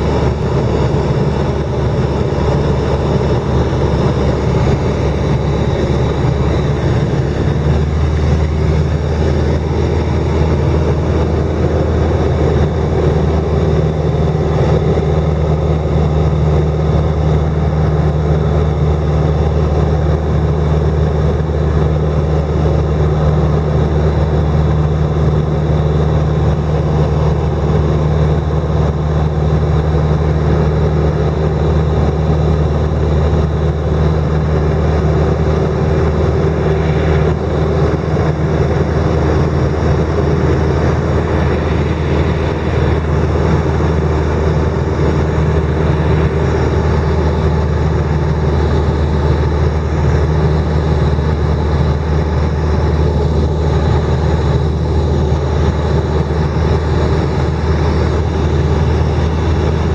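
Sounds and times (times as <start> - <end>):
airplane engine and propeller droning: 0.0 - 59.9
rushing air noise: 0.0 - 59.9.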